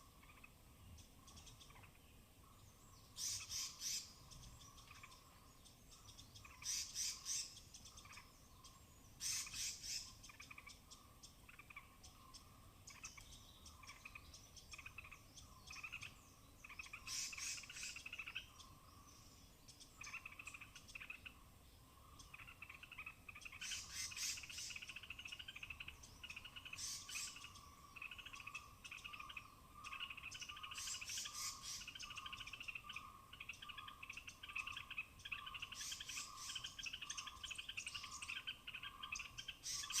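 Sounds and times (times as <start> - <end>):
high-pitched chirping calls: 3.2 - 5.2, 6.0 - 18.8, 22.2 - 40.0.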